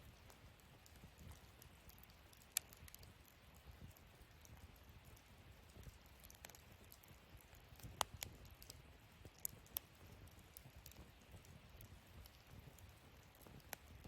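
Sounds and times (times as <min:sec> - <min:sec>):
fire popping: 0:00.0 - 0:14.0
low burning rumble: 0:00.0 - 0:14.0
wood fire crackling: 0:00.0 - 0:14.0.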